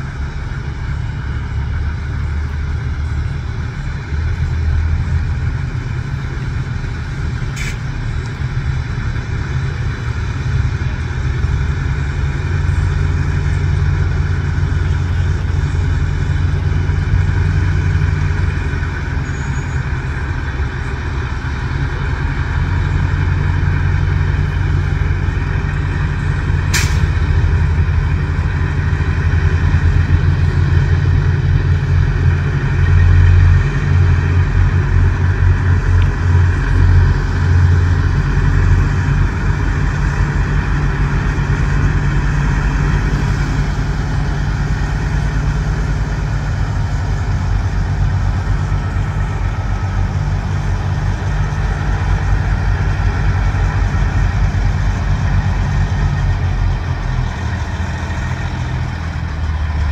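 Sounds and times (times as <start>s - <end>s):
truck diesel engines rumbling: 0.0s - 59.9s.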